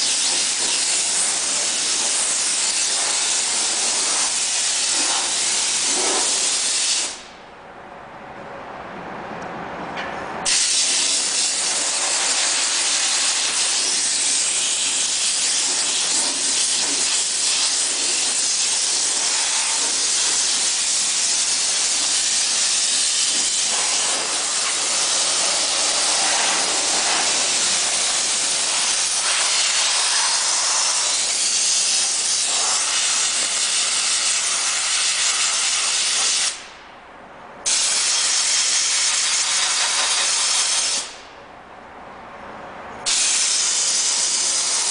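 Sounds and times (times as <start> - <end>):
steam cleaner hissing: 0.0 - 7.3, 10.5 - 36.7, 37.7 - 41.2, 43.1 - 44.9.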